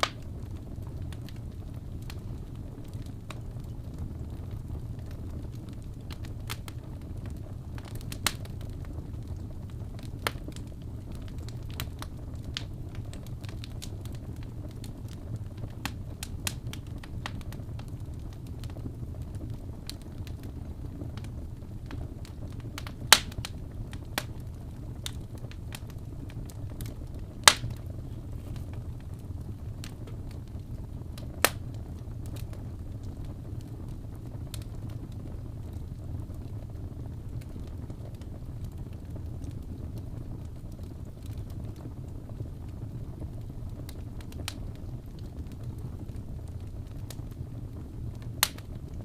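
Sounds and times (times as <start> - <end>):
steady low rumble: 0.0 - 41.8
fire crackling in fireplace: 0.0 - 49.0.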